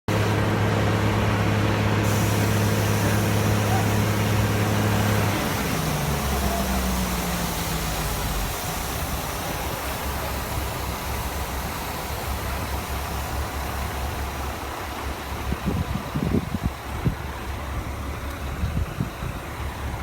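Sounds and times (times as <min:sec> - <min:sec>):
engine rumbling: 0:00.1 - 0:20.0.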